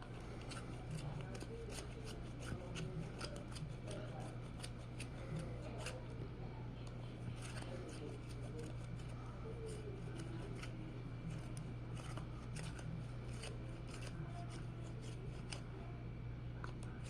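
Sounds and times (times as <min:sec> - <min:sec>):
low electrical hum: 0:00.0 - 0:17.0
art materials scratching paper: 0:00.3 - 0:06.1, 0:07.3 - 0:15.6.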